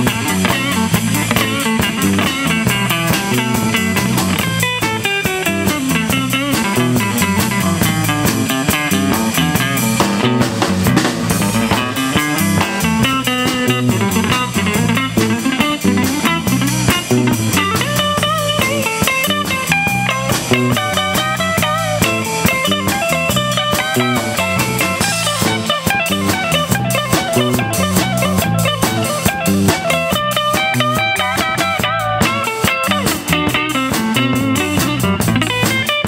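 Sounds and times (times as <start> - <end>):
repeating bass line: 0.0 - 35.7
lead electric guitar: 0.0 - 36.0
steady drum beat: 0.0 - 36.0.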